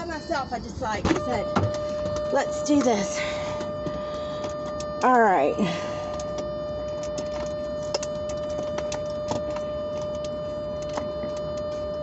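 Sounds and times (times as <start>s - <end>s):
steady high hum: 0.0s - 12.0s.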